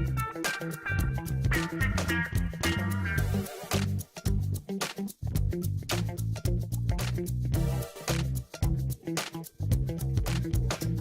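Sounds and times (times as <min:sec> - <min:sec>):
bass line: 0:00.0 - 0:09.0, 0:09.6 - 0:11.0
drums: 0:00.0 - 0:11.0
guitar: 0:00.0 - 0:11.0.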